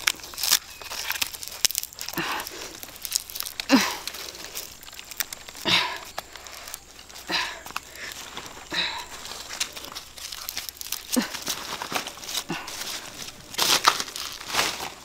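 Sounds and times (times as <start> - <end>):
banana stalk fibres crackling: 0.0 - 15.0.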